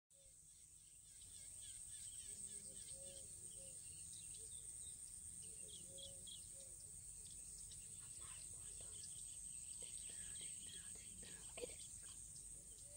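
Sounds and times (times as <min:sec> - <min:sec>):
birds chirping: 0:00.4 - 0:12.9.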